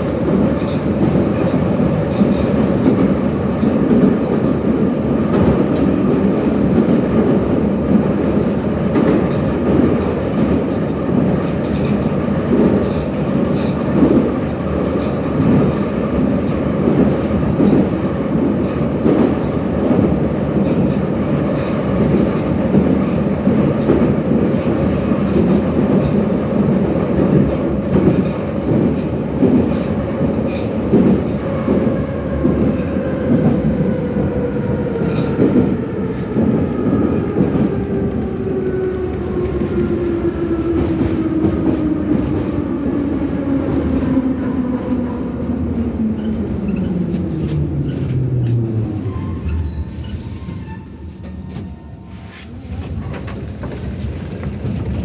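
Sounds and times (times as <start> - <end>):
train rumble in tunnel: 0.0 - 55.0.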